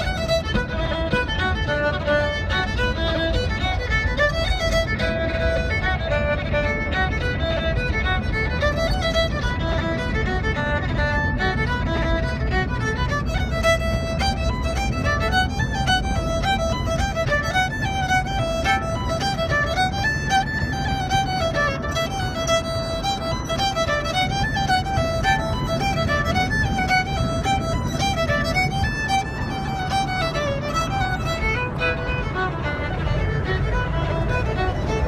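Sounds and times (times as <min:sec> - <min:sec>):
fiddle playing fast tune: 0:00.0 - 0:35.0
road noise: 0:00.0 - 0:35.0
van engine rumble: 0:00.0 - 0:35.0.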